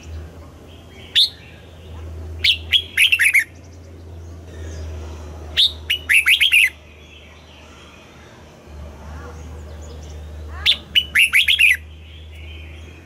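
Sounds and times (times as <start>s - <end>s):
bulbul singing: 0.0s - 13.0s
low steady hum: 0.0s - 13.0s.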